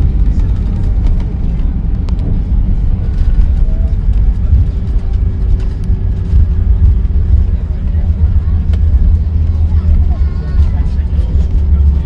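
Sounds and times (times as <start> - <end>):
airliner cabin rumble: 0.0 - 12.0
light clicks and rattles: 0.0 - 12.0.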